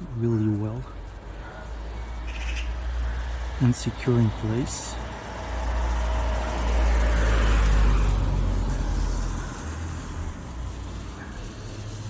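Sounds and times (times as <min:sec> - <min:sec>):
road vehicle passing by: 0:00.1 - 0:12.0.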